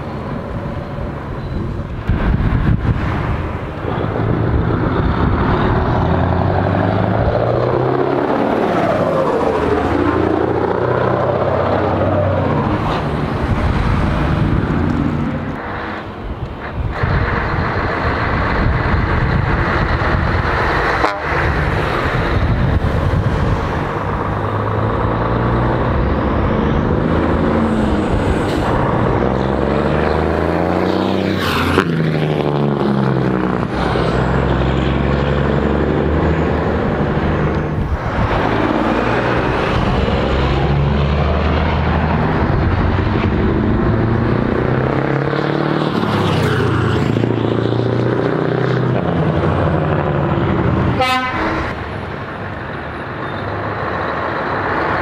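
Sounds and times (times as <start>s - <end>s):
trucks driving past: 0.0s - 55.0s.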